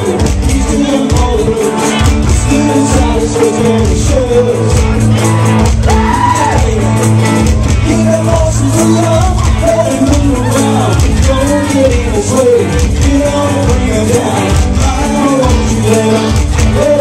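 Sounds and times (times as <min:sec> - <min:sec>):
bass line: 0:00.0 - 0:17.0
guitar: 0:00.0 - 0:17.0
person singing: 0:00.0 - 0:17.0
steady drum beat: 0:00.0 - 0:17.0.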